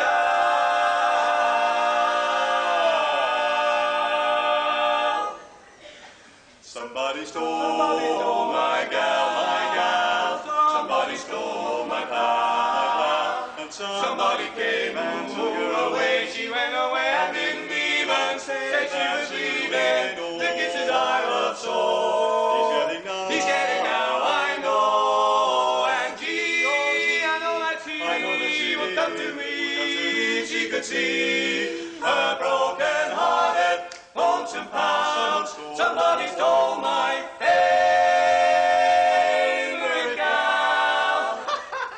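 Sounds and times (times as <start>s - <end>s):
male vocal quartet singing: 0.0s - 5.5s, 6.6s - 41.9s.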